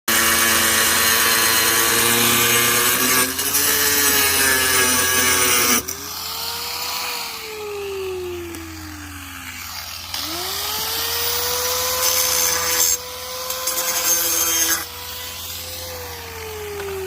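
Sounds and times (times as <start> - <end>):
power tool motor whining: 0.1 - 17.0.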